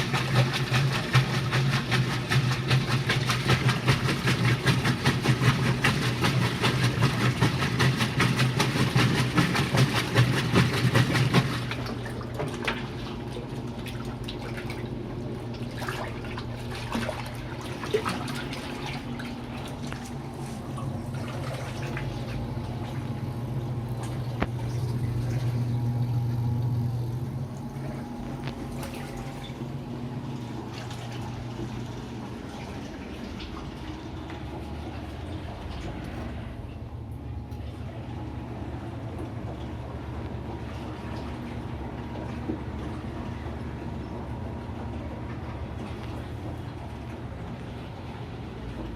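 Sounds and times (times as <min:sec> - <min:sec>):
washing machine motor humming: 0:00.0 - 0:48.9
water sloshing and splashing: 0:00.0 - 0:48.9.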